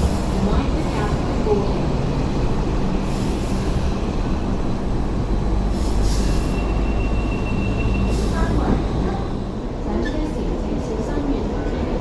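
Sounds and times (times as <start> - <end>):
train motors humming: 0.0 - 12.0
wheels rumbling on track: 0.0 - 12.0.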